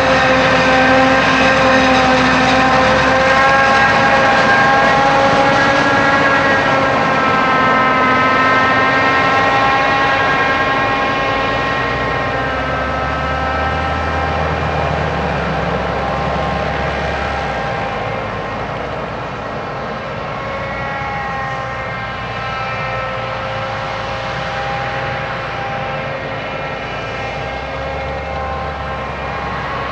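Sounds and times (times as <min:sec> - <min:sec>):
deep engine rumble: 0:00.0 - 0:29.9
engine noise: 0:00.0 - 0:29.9
high-pitched machine whine: 0:00.0 - 0:29.9.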